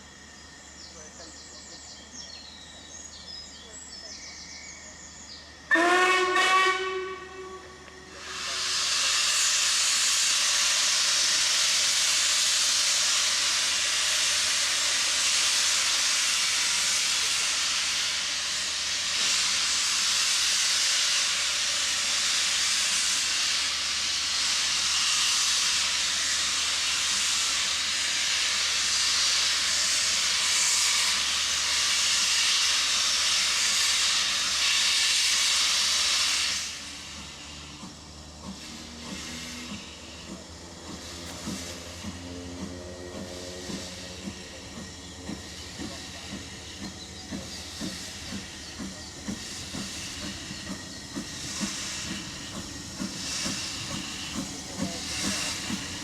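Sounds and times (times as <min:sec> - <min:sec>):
steam hissing loudly: 0:00.0 - 0:56.0.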